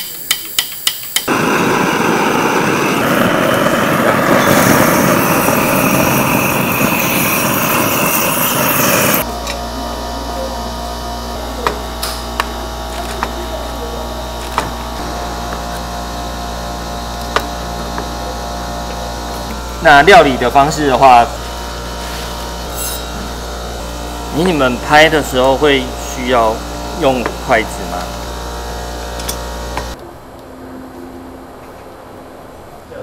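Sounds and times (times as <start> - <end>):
blowtorch hissing: 0.0 - 30.0.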